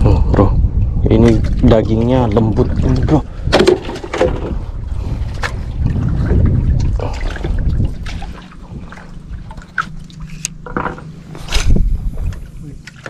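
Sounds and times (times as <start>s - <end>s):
low rumble: 0.0s - 13.0s
water splashing and trickling: 0.0s - 13.0s.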